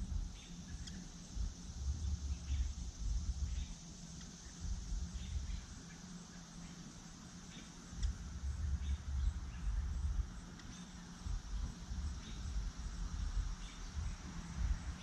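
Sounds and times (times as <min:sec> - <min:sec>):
wind rumbling on microphone: 0:00.0 - 0:03.8, 0:04.4 - 0:05.8, 0:07.9 - 0:15.0
high insect buzz: 0:00.0 - 0:15.0.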